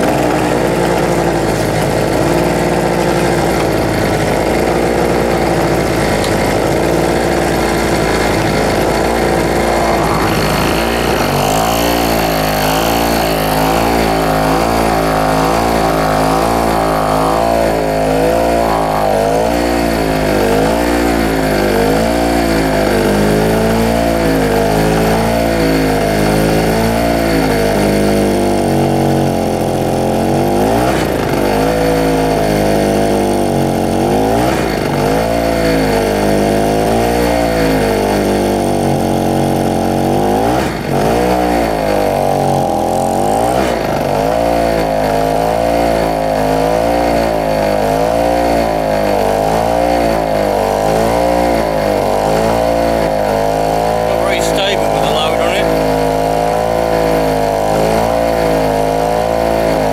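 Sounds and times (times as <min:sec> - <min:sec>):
generator engine surging: 0:00.0 - 0:59.9.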